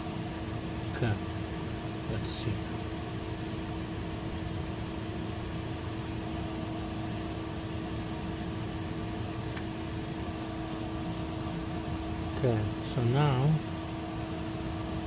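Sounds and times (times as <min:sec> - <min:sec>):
machinery hum with steady tone: 0:00.0 - 0:15.0.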